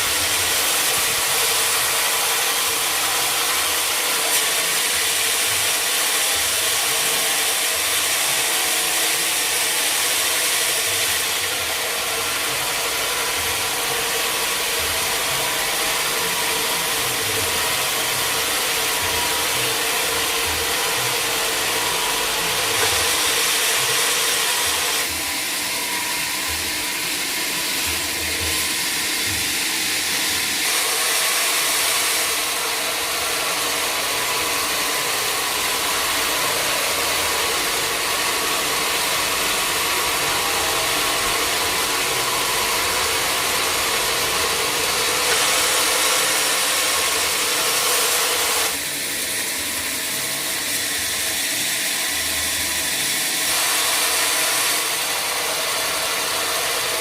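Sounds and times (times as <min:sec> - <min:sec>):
sawmill saw cutting wood: 0:00.0 - 0:57.0.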